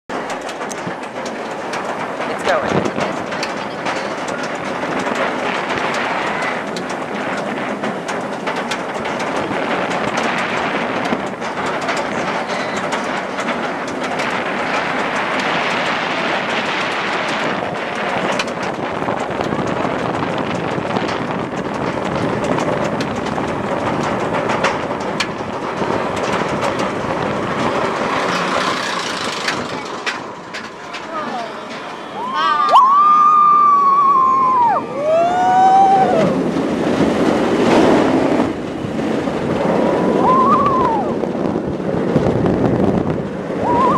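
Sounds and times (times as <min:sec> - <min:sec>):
wind noise on microphone: 0:00.1 - 0:31.4, 0:32.1 - 0:43.9
roller coaster lift rattle: 0:00.1 - 0:43.9.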